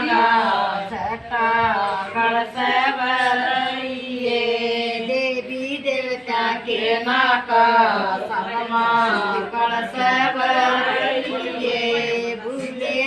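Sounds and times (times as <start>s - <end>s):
group singing chant-like song: 0.0s - 13.0s.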